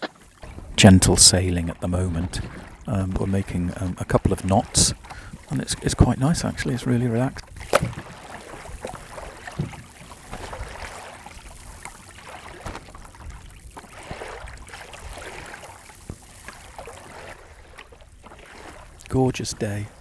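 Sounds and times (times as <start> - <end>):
water lapping along a hull: 0.0 - 20.0.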